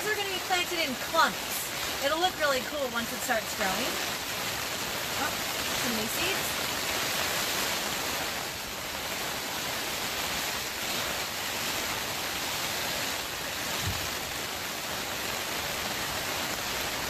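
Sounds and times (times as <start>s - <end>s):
rain on plastic cover: 0.0s - 17.0s.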